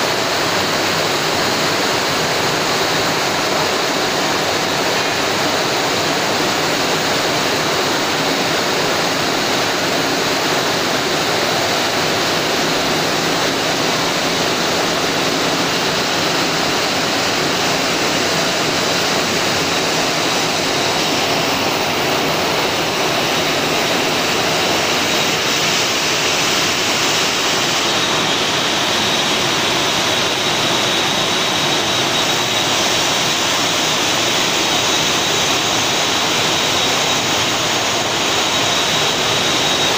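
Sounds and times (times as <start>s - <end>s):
faint high whine: 0.0s - 39.9s
water rushing and spraying: 0.0s - 39.9s.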